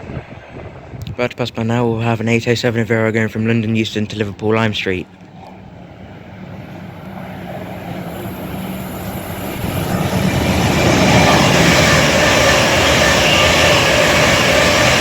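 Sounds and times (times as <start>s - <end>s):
electric train passing at speed: 0.0s - 4.4s, 5.0s - 15.0s.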